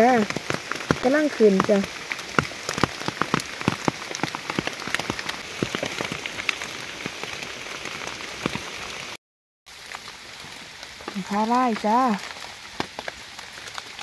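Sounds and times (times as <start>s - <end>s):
rain on leaves: 0.0s - 14.0s.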